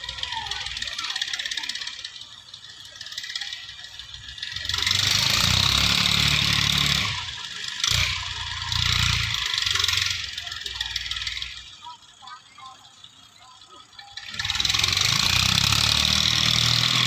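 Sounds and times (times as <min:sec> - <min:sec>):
tractor diesel engine plowing: 0:00.0 - 0:17.0.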